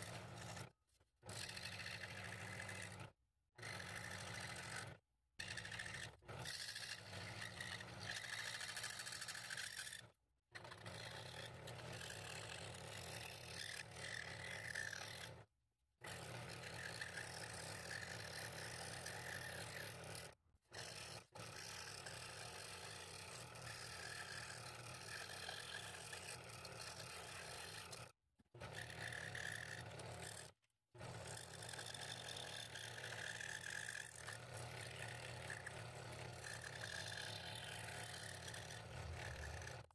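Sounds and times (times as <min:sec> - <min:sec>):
scroll saw cutting wood: 0:00.0 - 0:39.9.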